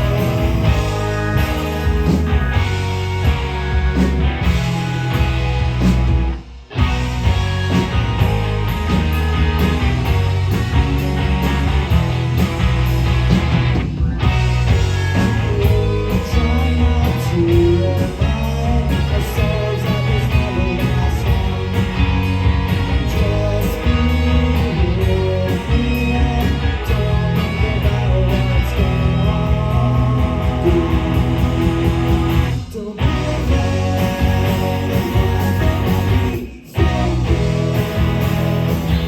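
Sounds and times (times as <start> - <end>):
electric guitar: 0.0 - 39.0
live rock band playing: 0.0 - 39.0.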